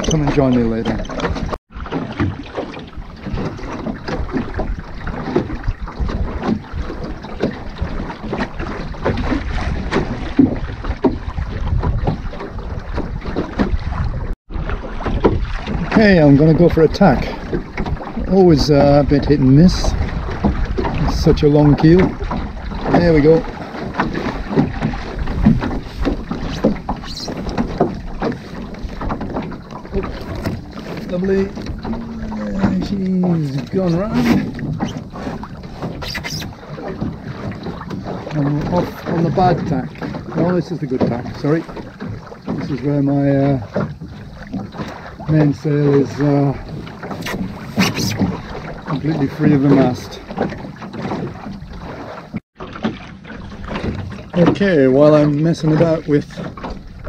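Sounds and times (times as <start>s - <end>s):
water slapping against hull: 0.0s - 57.0s
wind buffeting microphone: 2.2s - 52.4s.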